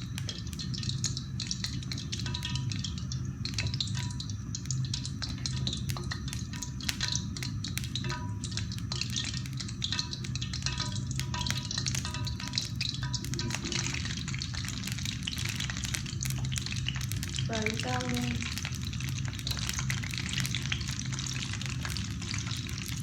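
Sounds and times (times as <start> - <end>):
oil crackling in frying pan: 0.0 - 23.0.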